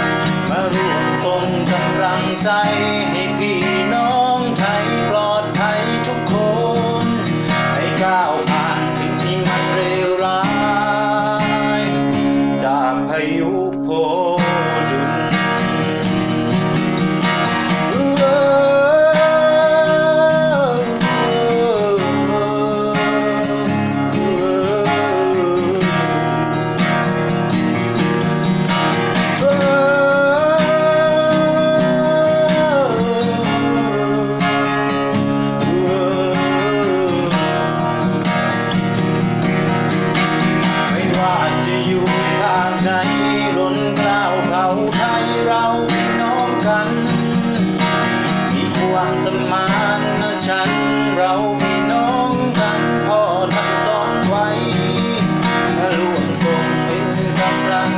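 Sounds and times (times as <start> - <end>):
strummed acoustic guitar melody: 0.0 - 57.9.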